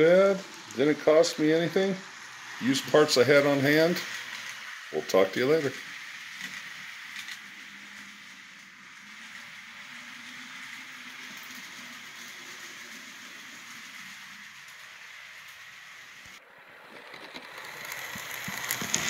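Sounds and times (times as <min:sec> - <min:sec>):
model train wheels on rail: 0:00.0 - 0:19.0.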